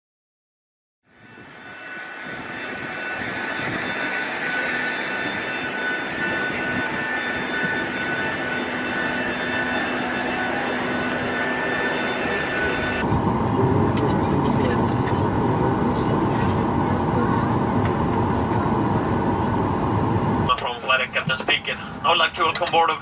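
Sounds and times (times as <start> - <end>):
thin high whine: 1.1 - 23.0
jet aircraft cabin noise: 2.2 - 23.0.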